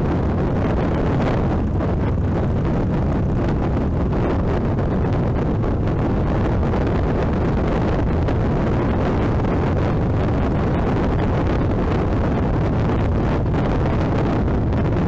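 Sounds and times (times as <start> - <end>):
motorcycle running: 0.0 - 15.0
wind rush on microphone: 0.0 - 15.0.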